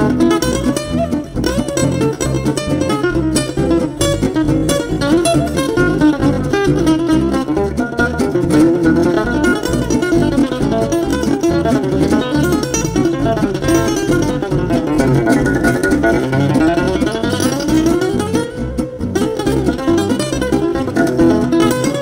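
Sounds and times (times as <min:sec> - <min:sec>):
acoustic guitar plucked tune: 0:00.0 - 0:22.0
steady bass beat: 0:00.0 - 0:22.0.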